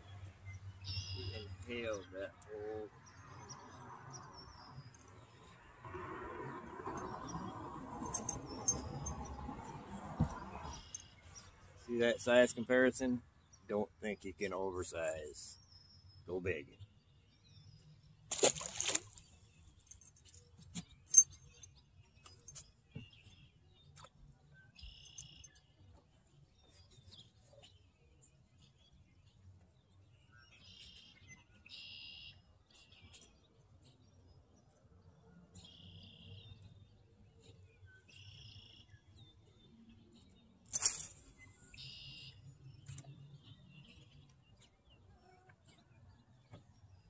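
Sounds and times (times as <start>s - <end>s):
birds chirping: 0.0s - 5.8s, 9.9s - 47.0s.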